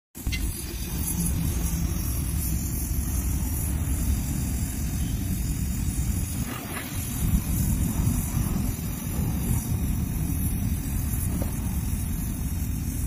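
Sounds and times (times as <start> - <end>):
thin high hiss: 0.2 - 13.0
welding torch flame rushing: 0.2 - 13.0.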